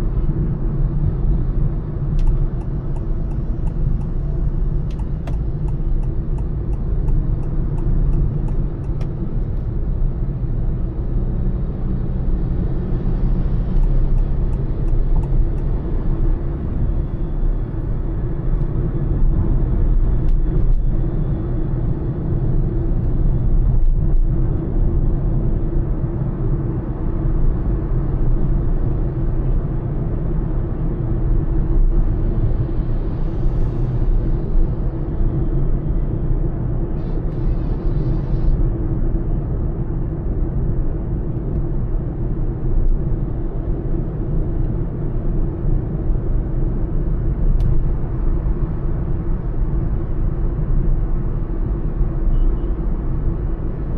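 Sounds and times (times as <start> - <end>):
road and engine rumble: 0.0 - 53.9.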